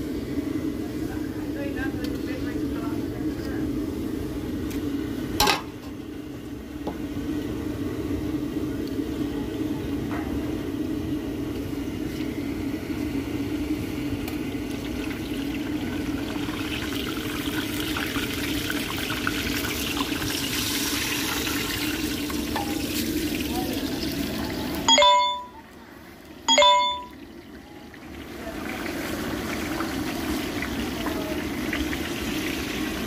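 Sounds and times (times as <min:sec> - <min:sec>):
deep-frying in oil: 0:00.0 - 0:33.0
hissing sizzle: 0:00.0 - 0:33.0.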